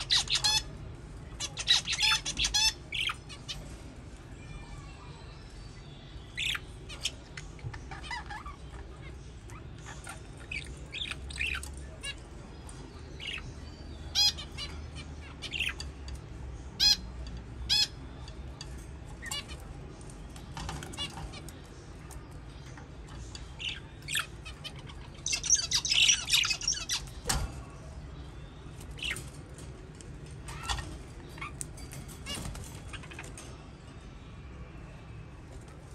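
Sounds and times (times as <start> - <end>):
budgerigars chirping and squawking: 0.0 - 3.9, 5.7 - 33.8.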